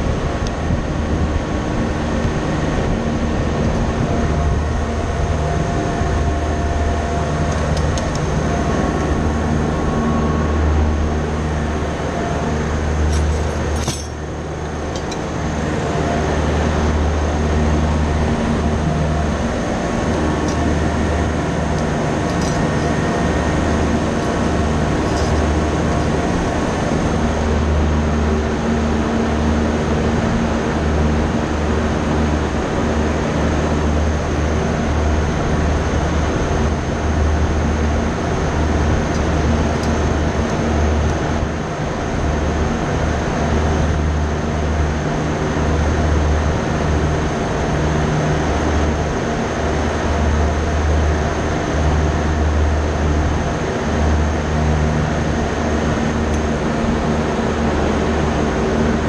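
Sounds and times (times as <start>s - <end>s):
mechanical hum with steady tones: 0.0s - 59.0s.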